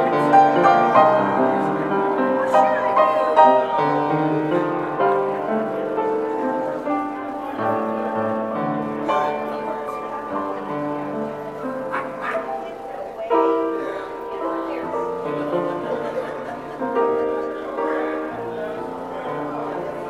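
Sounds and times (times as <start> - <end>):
solo piano prelude: 0.0 - 20.0.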